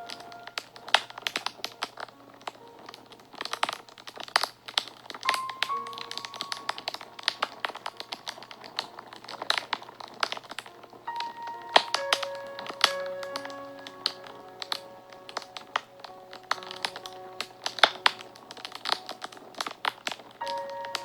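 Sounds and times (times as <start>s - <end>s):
soft background music: 0.0s - 21.0s
wood fire crackling: 0.0s - 21.0s.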